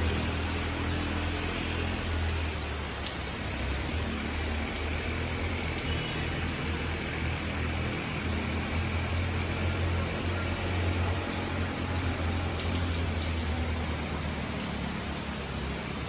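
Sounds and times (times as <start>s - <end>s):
rain falling on foliage: 0.0s - 16.0s.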